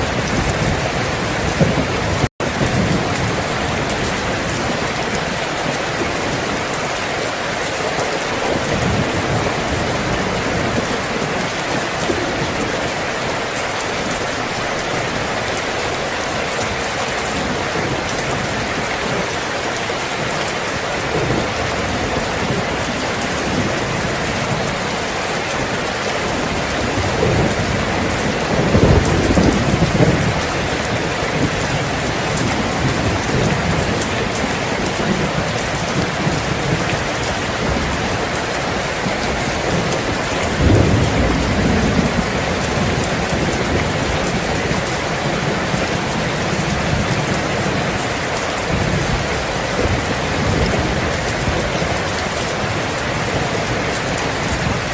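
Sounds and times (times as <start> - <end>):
heavy rain falling: 0.0 - 54.9
thunder rumbling: 0.0 - 54.9.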